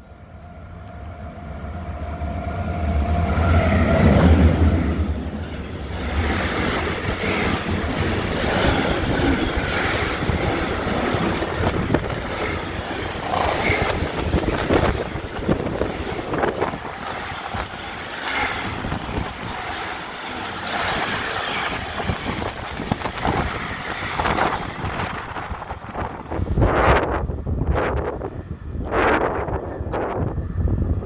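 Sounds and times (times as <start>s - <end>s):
electric locomotive whine: 0.0s - 31.0s
freight train rumbling: 0.0s - 31.0s.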